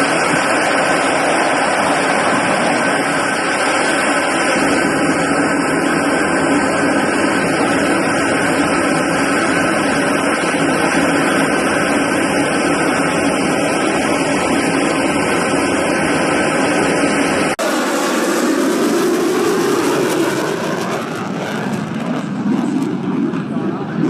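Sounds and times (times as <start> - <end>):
aircraft engine noise: 0.0 - 24.0.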